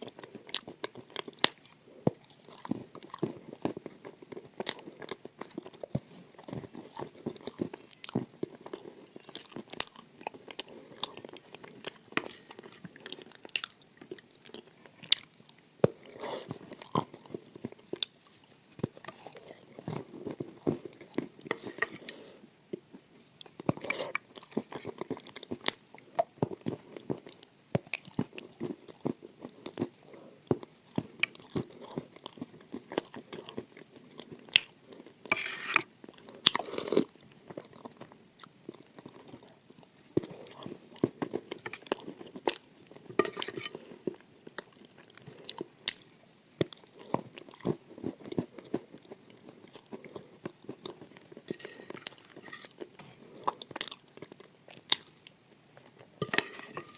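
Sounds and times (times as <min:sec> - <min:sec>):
crunching and chewing food: 0:00.0 - 0:56.9.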